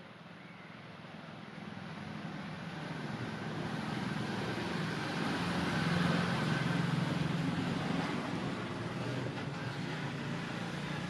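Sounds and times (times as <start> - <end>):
vehicle engine approaching: 1.6 - 11.0.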